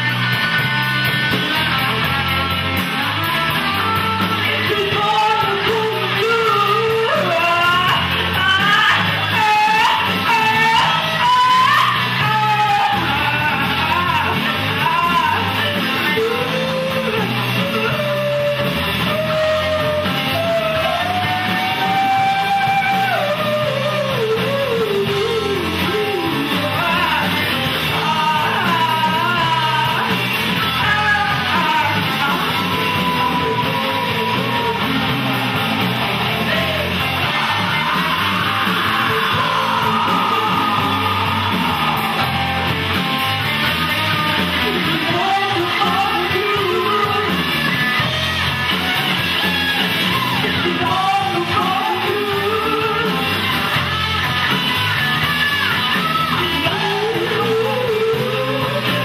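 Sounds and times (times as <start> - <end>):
blues-rock band playing: 0.0 - 59.0
electric guitars: 0.0 - 59.0
woman singing: 3.9 - 35.4, 36.3 - 42.3, 43.6 - 47.4, 50.4 - 53.6, 55.6 - 59.0.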